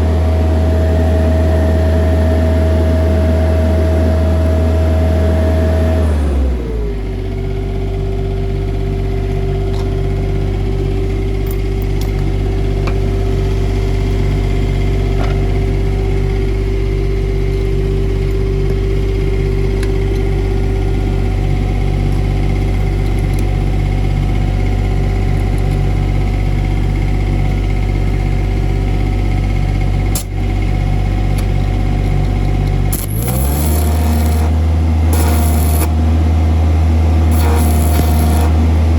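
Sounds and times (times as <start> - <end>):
engine welder engine running: 0.0 - 38.9.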